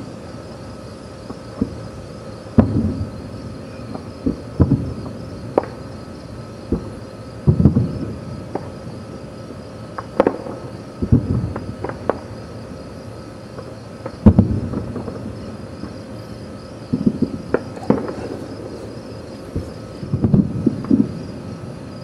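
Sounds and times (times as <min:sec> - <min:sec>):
crickets chirping: 0:00.0 - 0:22.0
distant fireworks booming: 0:01.2 - 0:22.0.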